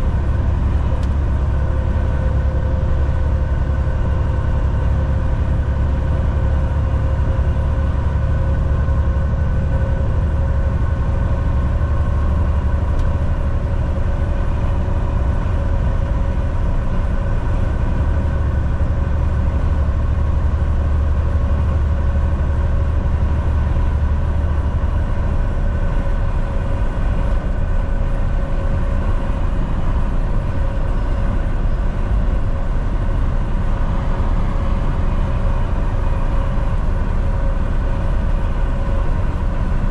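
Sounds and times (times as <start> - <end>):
truck engine drone: 0.0 - 39.9.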